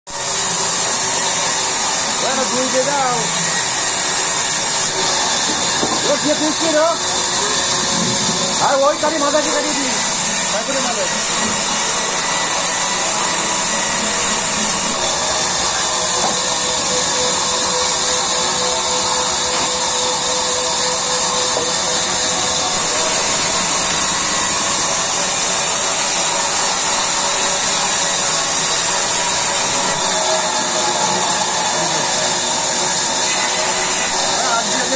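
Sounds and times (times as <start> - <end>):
band saw cutting wood: 0.1 - 34.9.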